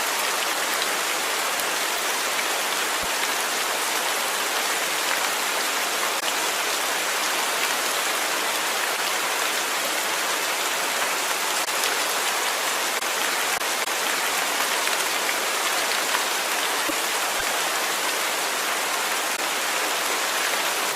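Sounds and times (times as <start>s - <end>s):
rain pattering: 0.0s - 20.9s.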